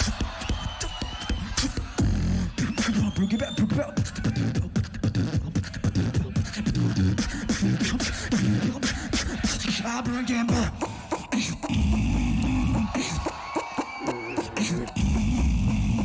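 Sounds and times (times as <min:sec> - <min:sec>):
beatboxing: 0:00.0 - 0:16.0.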